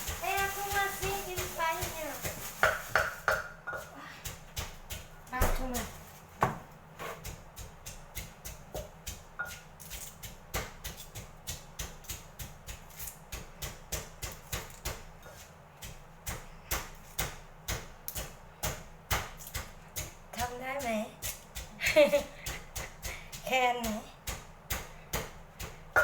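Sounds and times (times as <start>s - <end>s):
knife chopping on cutting board: 0.0s - 21.7s, 22.4s - 26.0s.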